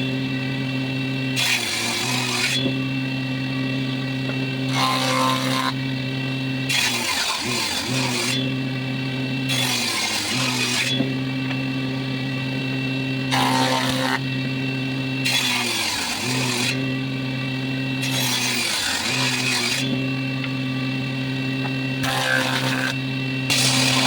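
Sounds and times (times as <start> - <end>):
hissing wood cutting noise: 0.0 - 24.0
woodworking machine humming: 0.0 - 24.0.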